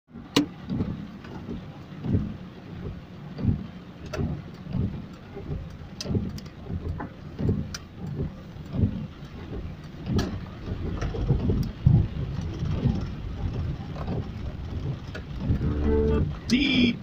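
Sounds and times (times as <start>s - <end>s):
heavy rain on windscreen: 0.1s - 17.0s
rain drops ticking: 0.1s - 17.0s.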